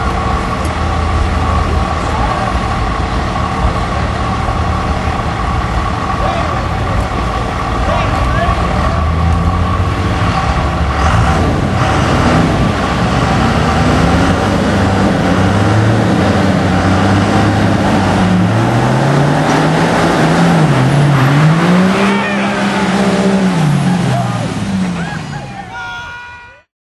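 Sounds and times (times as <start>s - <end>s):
diesel engine running hard: 0.0s - 26.1s.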